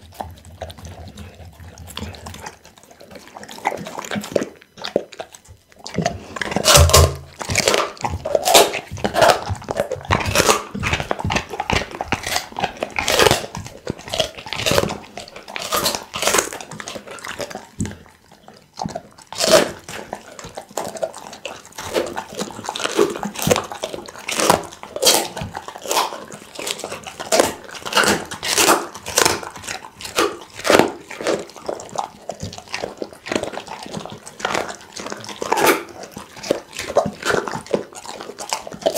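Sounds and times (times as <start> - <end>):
dog chewing meat and bone: 0.0 - 38.9.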